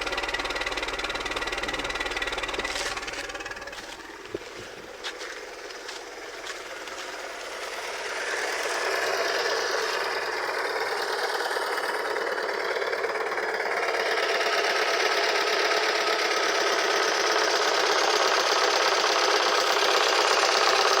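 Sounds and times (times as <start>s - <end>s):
engine ticking clatter: 0.0s - 21.0s.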